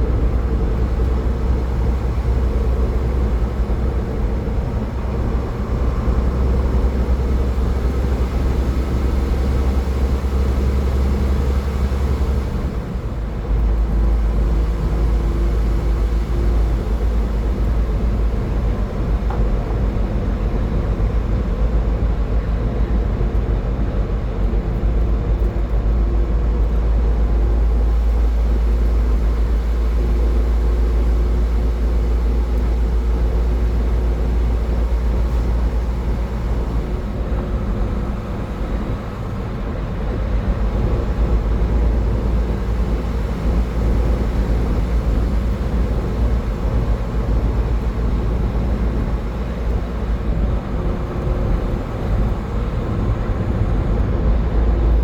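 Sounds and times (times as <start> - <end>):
road and wind rumble: 0.0 - 55.0.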